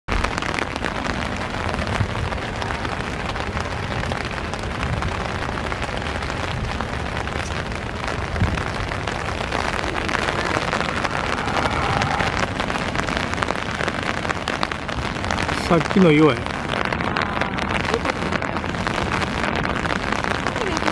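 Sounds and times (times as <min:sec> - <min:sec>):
rain: 0:00.0 - 0:20.9
sea surf breaking: 0:00.1 - 0:20.9.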